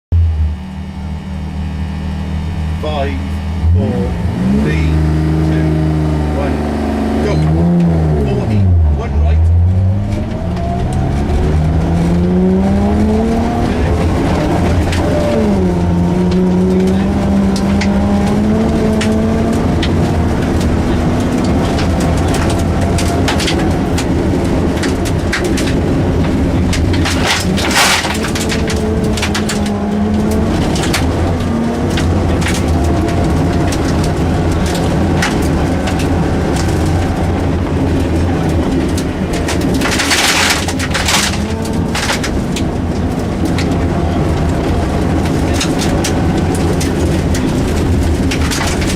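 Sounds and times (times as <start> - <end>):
rally car engine revving: 0.1 - 48.9
steady low rumble: 0.1 - 48.9
rushes of noise: 1.8 - 48.9
sharp clicks and rattles: 7.2 - 48.9.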